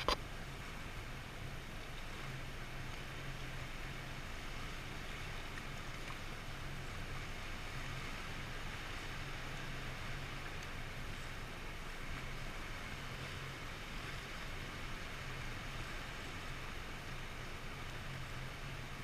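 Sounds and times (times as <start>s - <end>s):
hiss of water and air: 0.0s - 19.0s
outboard motor humming: 0.0s - 19.0s.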